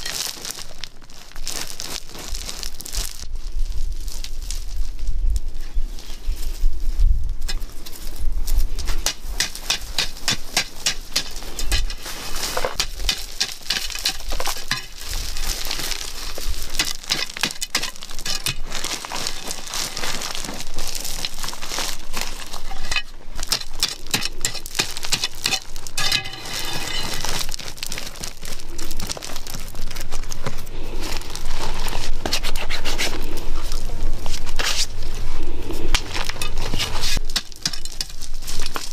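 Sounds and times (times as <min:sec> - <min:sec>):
digging in gravelly earth: 0:00.0 - 0:38.9.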